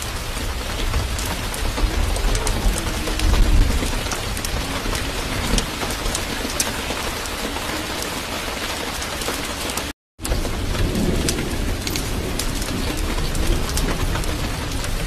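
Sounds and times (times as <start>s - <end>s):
rain-like hiss: 0.0s - 15.0s.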